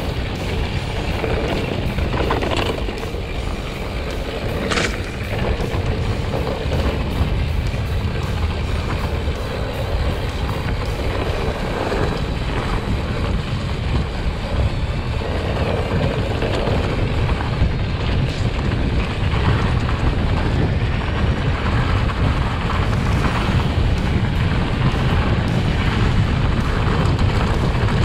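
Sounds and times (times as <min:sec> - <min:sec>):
mountain bike rolling on trail: 0:00.0 - 0:28.0
wind buffeting microphone: 0:00.0 - 0:28.0.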